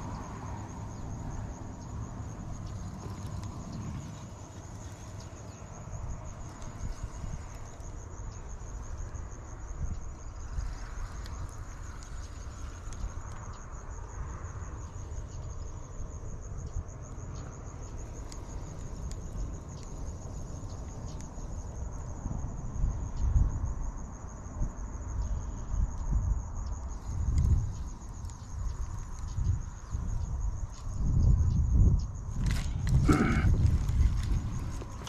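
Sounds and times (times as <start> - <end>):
insect trilling: 0.0 - 22.1, 25.2 - 35.0
wind rumble on microphone: 0.0 - 35.0.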